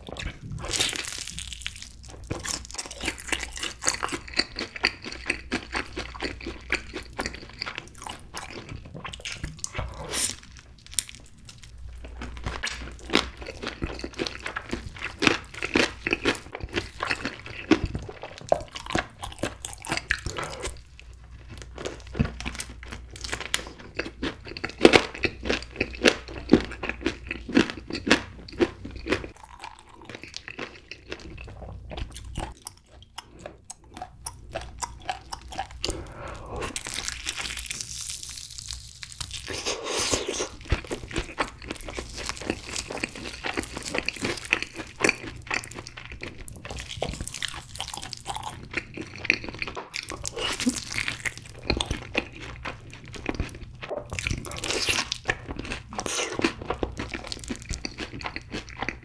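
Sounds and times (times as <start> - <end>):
crunching fried chicken: 0.0 - 59.0
wet chewing: 0.0 - 59.0.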